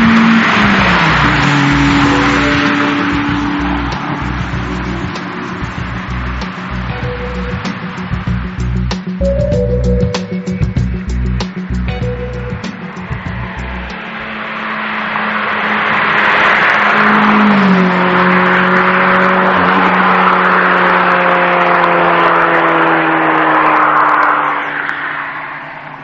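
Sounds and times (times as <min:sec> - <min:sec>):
car engine passing fast: 0:00.0 - 0:09.7, 0:12.5 - 0:26.0.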